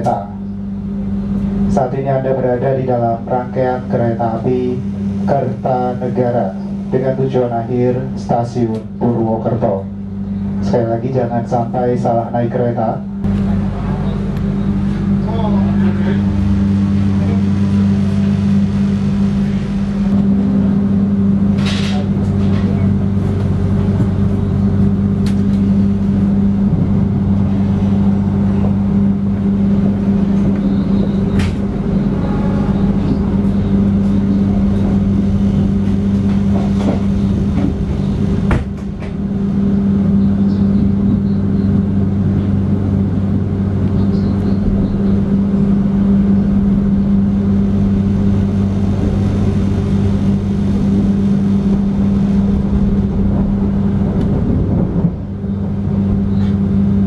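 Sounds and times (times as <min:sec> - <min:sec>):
train carriage low hum: 0:00.0 - 0:57.0.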